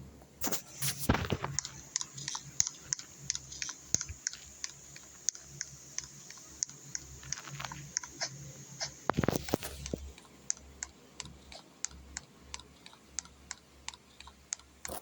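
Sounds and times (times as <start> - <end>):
faint low hum: 0.0 - 15.0
light clicks and taps: 1.1 - 15.0.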